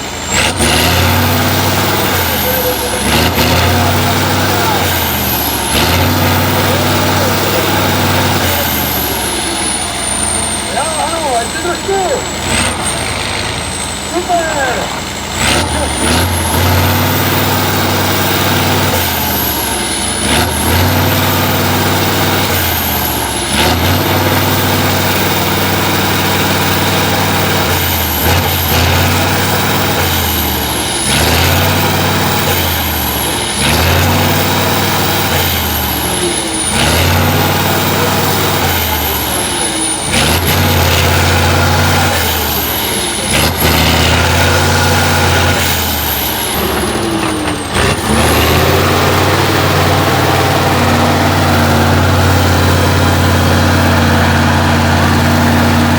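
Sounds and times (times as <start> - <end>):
diesel truck engine revving: 0.0 - 55.9.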